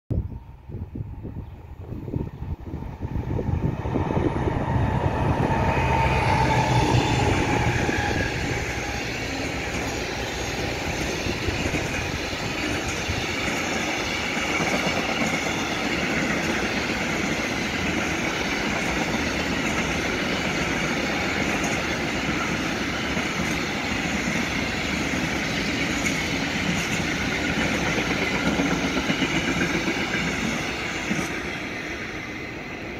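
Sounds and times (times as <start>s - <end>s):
diesel locomotive engine: 0.2s - 32.9s
train wheels on rails: 1.0s - 32.9s.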